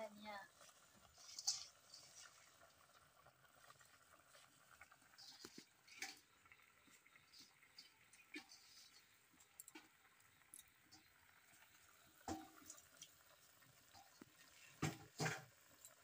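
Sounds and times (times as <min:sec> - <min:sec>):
food simmering with pops: 0:00.0 - 0:16.0.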